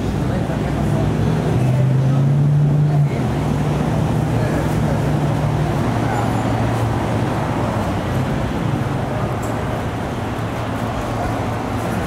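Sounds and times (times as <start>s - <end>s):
street traffic noise: 0.0s - 12.0s
vehicle engine humming: 0.0s - 12.0s.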